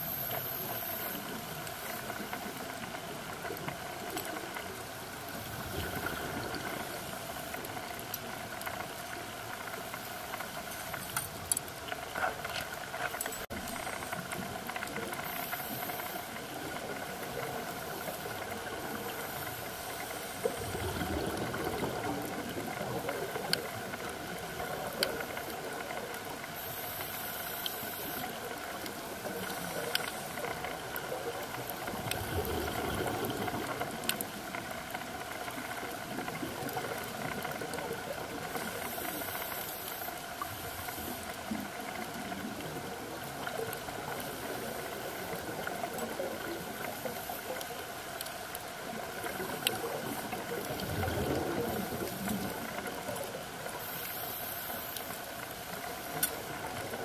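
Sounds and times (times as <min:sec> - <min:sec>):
scuba exhaust bubbles: 0:00.0 - 0:12.4, 0:13.5 - 0:57.0
underwater bubbling hiss: 0:00.0 - 0:57.0.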